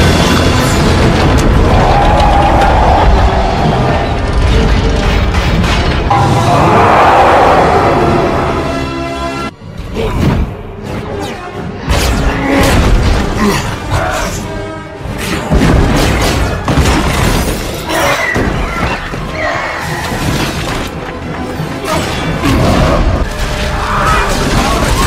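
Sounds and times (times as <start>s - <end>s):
film score music: 0.0s - 25.0s.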